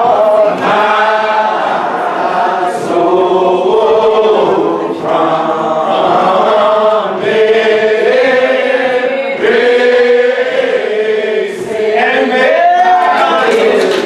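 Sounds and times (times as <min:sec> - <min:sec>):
unaccompanied hymn singing: 0:00.0 - 0:14.0.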